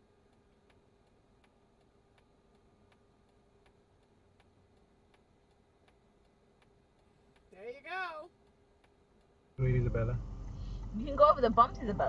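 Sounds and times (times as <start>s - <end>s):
low steady hum: 0.0s - 12.0s
turn signal ticking: 0.0s - 12.0s.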